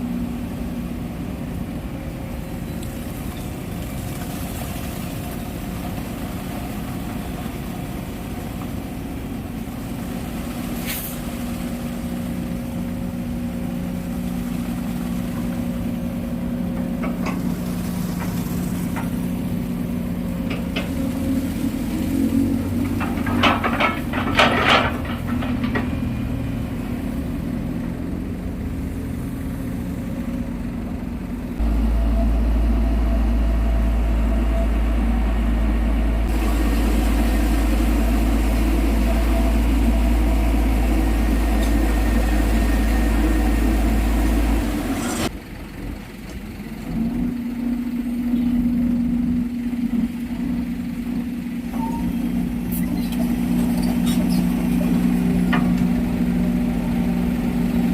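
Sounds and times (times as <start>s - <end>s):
diesel engines running: 0.0s - 57.9s.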